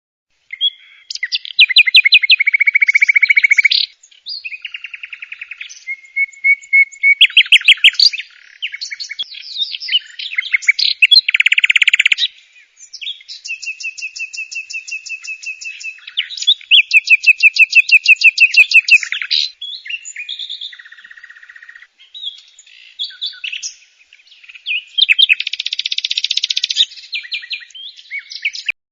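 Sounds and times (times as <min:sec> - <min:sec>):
songbird singing: 0:00.3 - 0:28.8.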